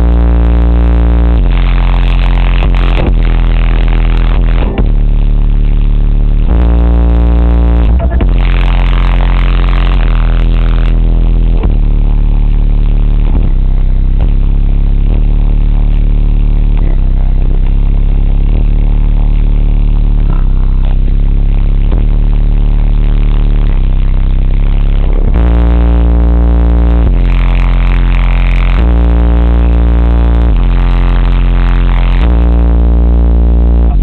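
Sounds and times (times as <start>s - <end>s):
distorted bass-heavy music: 0.0s - 34.0s.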